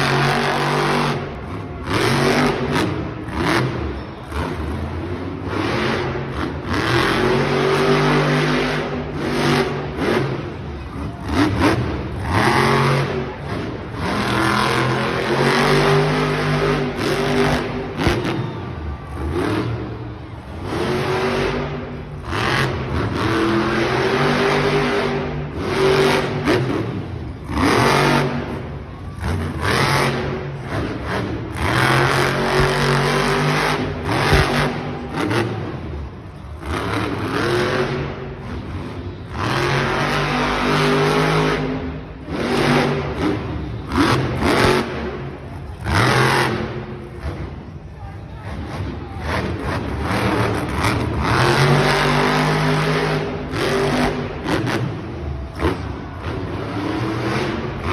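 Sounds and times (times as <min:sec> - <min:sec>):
truck engine revving hard: 0:00.0 - 0:47.8, 0:48.5 - 0:57.9.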